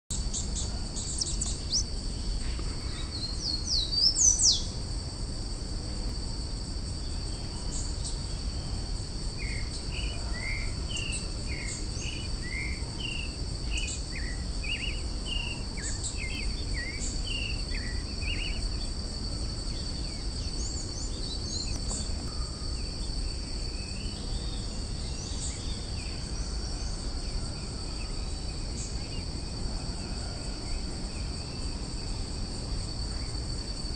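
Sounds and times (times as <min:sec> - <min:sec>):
insects trilling: 0:00.1 - 0:33.9.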